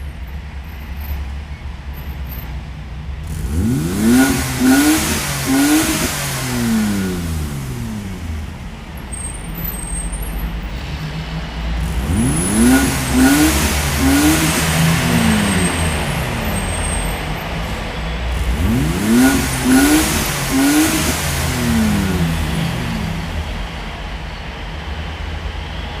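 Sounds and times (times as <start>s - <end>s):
vehicle engine revving: 3.1s - 25.9s.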